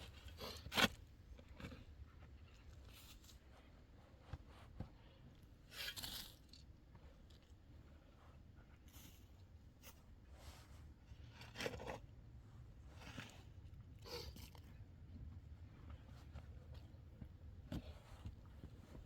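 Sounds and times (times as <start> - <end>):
faint rustling and crunching: 0.0 - 19.0.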